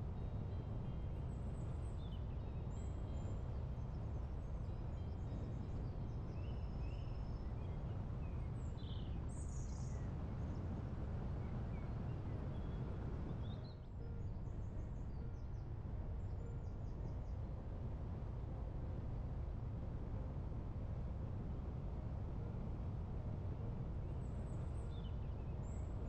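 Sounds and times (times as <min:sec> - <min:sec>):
low wind noise: 0:00.0 - 0:26.0.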